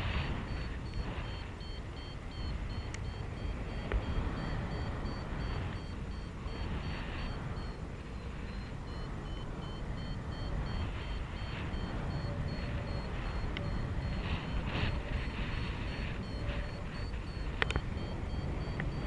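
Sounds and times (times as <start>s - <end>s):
variometer short high beeps: 0.0s - 19.0s
wind rushing over microphone: 0.0s - 19.0s.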